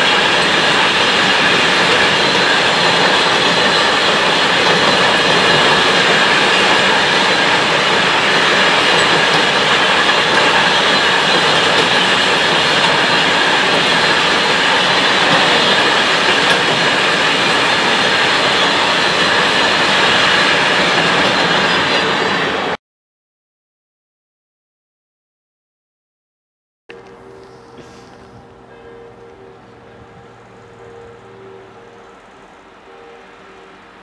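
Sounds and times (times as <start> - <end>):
freight train rolling past: 0.0 - 22.8, 26.9 - 34.0
high ringing of wheels on rail: 0.0 - 22.8, 26.9 - 34.0.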